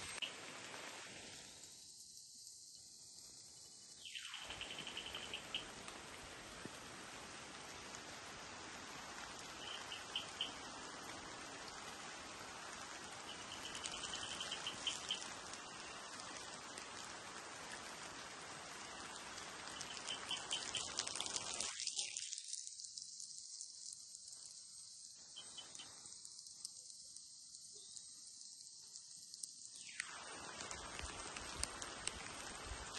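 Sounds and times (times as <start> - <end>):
rain on leafy foliage: 0.0 - 32.9.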